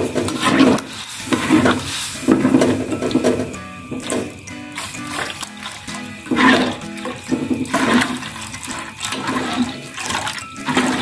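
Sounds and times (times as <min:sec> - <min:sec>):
water pouring into a wok: 0:00.0 - 0:11.0.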